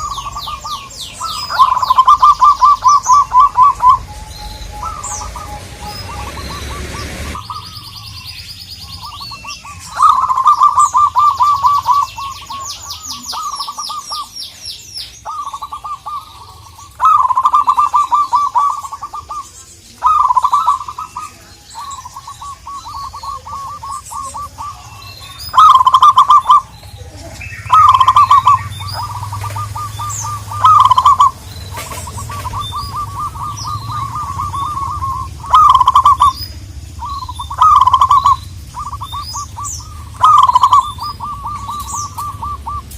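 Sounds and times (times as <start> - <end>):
doves cooing: 0.0 - 42.9
thin high chirping: 0.0 - 42.9.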